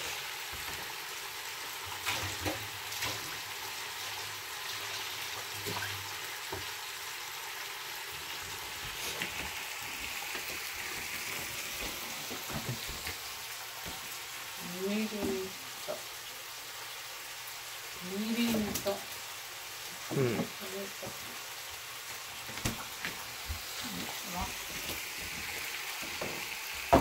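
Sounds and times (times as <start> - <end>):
meat sizzling in a frying pan: 0.0 - 27.0.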